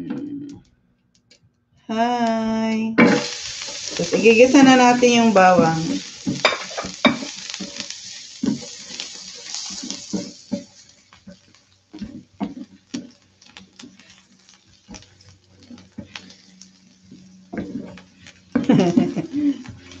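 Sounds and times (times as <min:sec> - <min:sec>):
garlic sizzling in oil: 0:03.0 - 0:20.0
spatula scraping and tapping pan: 0:03.0 - 0:20.0.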